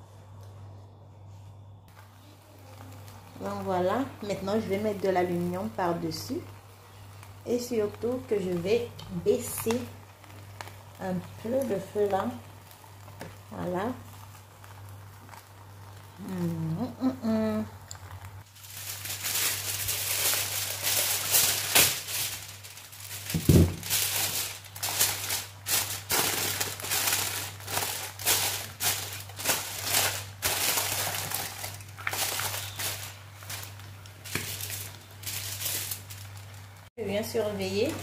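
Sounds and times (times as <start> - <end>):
aluminium foil crinkling: 1.9 - 36.9.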